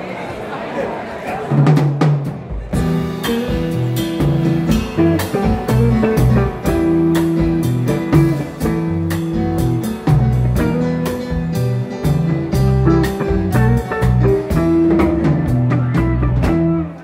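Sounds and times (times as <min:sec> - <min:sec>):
drum kit: 0:01.5 - 0:17.0.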